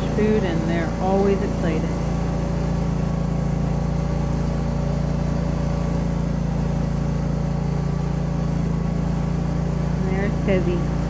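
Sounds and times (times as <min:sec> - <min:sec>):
feed mixer engine droning: 0:00.0 - 0:11.0.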